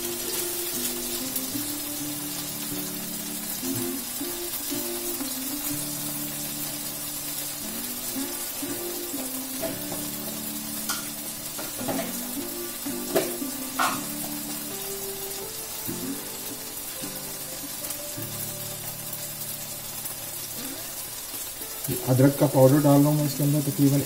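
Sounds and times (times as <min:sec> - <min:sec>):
background music: 0:00.0 - 0:24.0
food sizzling in a wok: 0:00.0 - 0:24.0.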